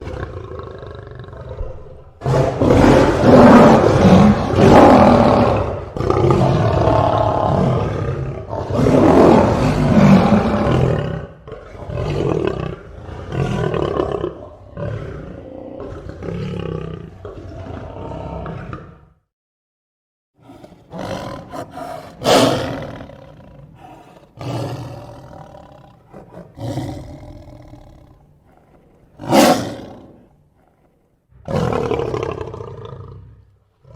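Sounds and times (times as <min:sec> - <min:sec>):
lion roaring and grunting: 0:00.0 - 0:19.1, 0:20.4 - 0:33.9.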